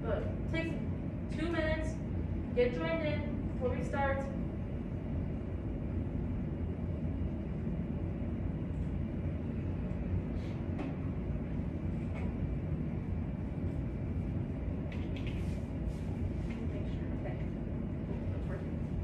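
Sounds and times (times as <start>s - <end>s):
low rumble of room noise: 0.0s - 19.0s.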